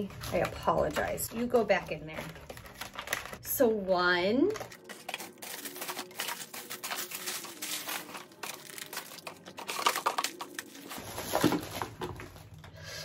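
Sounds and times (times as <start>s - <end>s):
plastic packaging crinkling: 0.0s - 3.5s, 4.4s - 12.8s.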